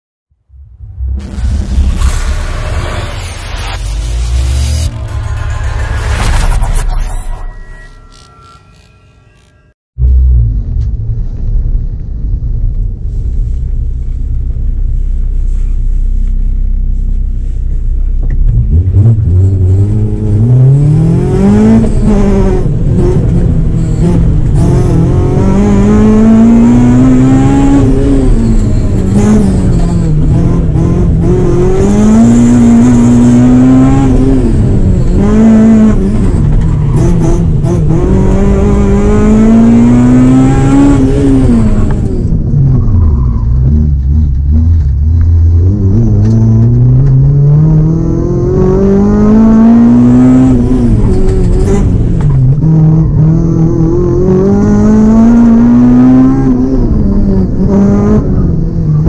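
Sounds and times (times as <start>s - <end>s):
car engine idling and revving: 0.3s - 7.4s, 10.0s - 59.0s.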